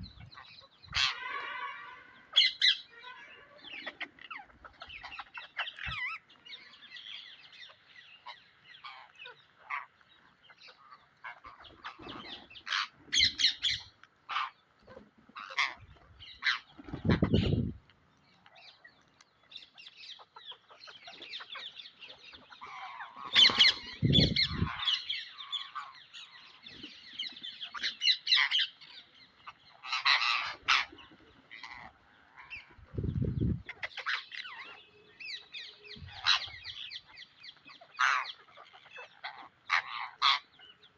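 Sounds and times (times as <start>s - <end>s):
parakeet squawking and chattering: 0.0s - 14.6s, 15.4s - 17.8s, 19.6s - 26.6s, 27.6s - 40.7s.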